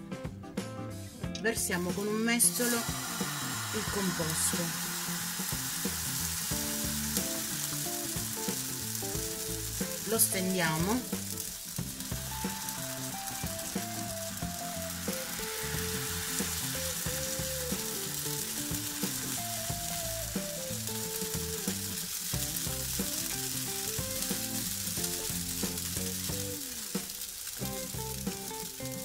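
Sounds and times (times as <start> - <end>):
batter sizzling in a pan: 1.7 - 29.0.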